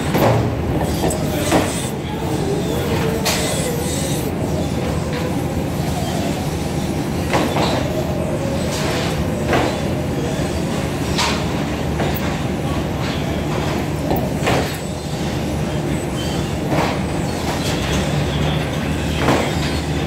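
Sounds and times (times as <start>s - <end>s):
conveyor belt rumbling: 0.0s - 20.0s.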